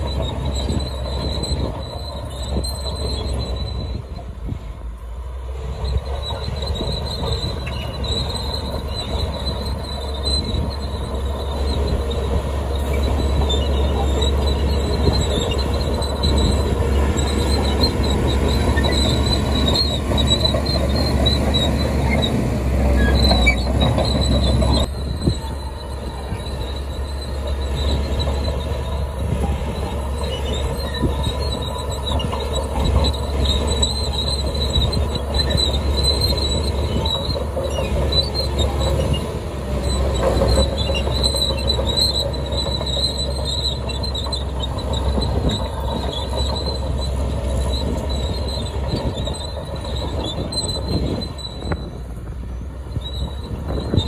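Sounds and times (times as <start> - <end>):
wavering high squeal: 0.0 - 4.5, 5.5 - 54.0
bulldozer diesel engine under load: 0.0 - 54.0
steel tracks clanking: 0.0 - 54.0.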